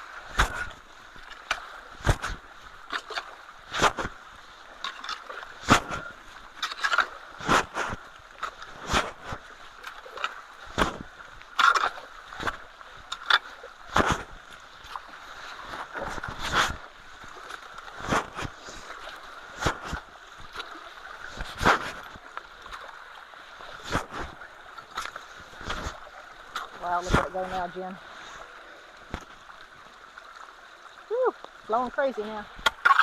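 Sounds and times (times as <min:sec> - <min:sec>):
running water: 0:00.0 - 0:33.0
water splashing and sloshing: 0:00.0 - 0:33.0.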